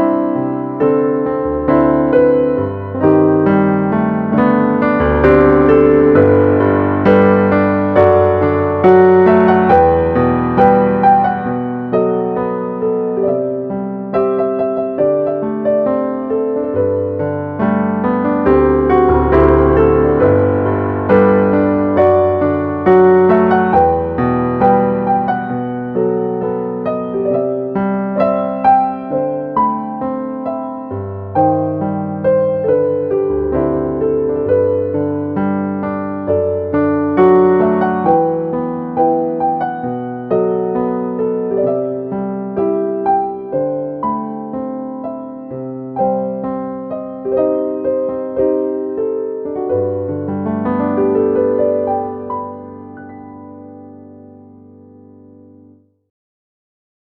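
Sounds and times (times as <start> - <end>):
slow gentle piano piece: 0.0 - 56.1.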